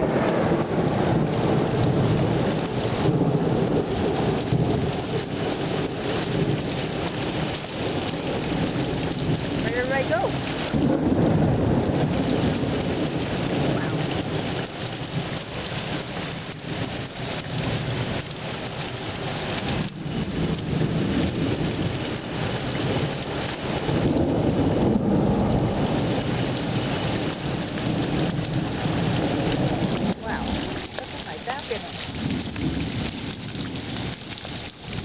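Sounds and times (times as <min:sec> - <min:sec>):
heavy rain pouring: 0:00.0 - 0:35.0
low thunder rumbling: 0:00.0 - 0:35.0.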